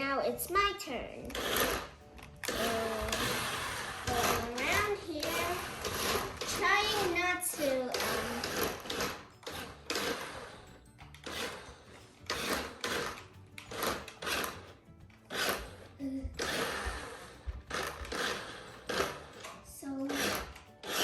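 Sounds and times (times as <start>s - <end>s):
small electric motor whirring: 1.2s - 21.0s.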